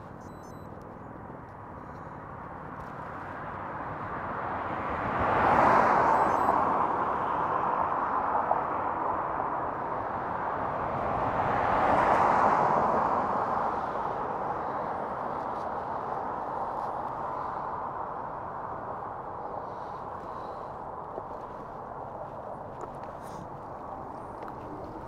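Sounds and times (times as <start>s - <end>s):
passing traffic rushing: 0.0s - 25.0s
road and air noise: 0.0s - 25.0s.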